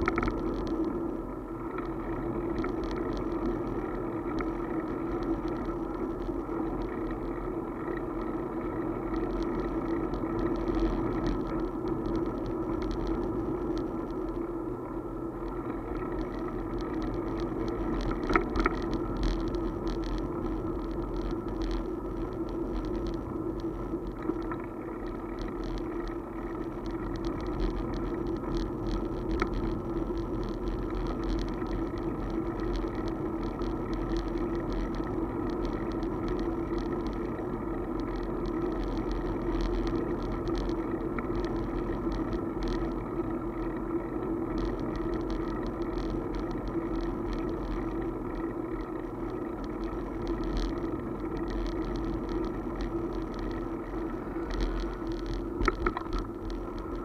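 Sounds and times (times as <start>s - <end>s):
small rattles and clicks: 0.0s - 57.0s
two-wheeler riding hum: 0.0s - 57.0s.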